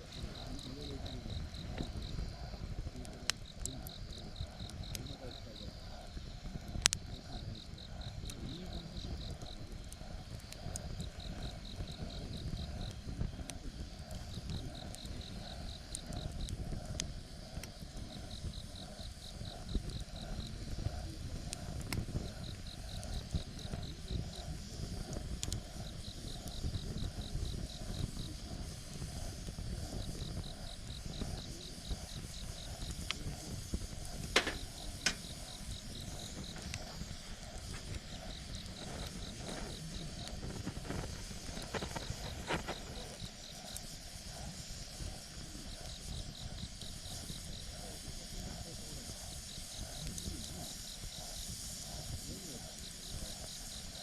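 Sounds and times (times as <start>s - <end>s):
campfire crackling and popping: 0.0s - 54.0s
insect trilling: 0.0s - 54.0s.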